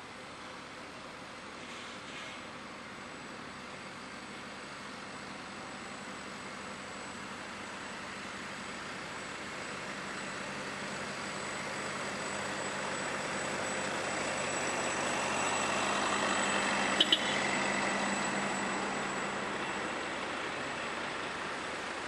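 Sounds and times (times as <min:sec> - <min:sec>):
lorry engines humming: 0:00.1 - 0:22.0.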